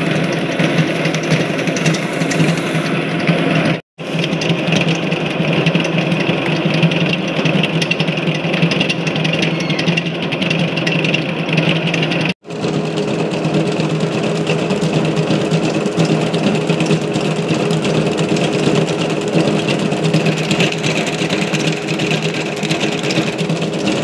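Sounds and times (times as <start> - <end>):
beater churning batter: 0.0 - 24.0
mixer motor humming: 0.0 - 24.0.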